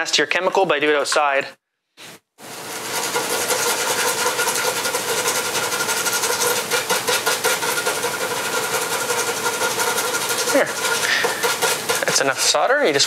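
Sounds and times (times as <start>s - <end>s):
brush scrubbing circuit board: 2.0s - 13.0s.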